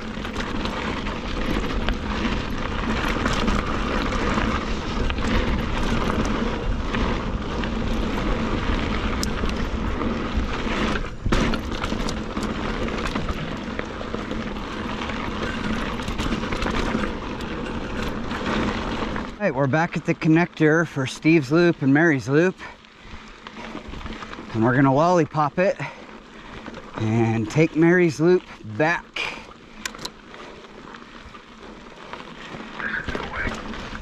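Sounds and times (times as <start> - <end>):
bike clicks and rattles: 0.0 - 34.0
bike tyres on gravel: 0.0 - 34.0.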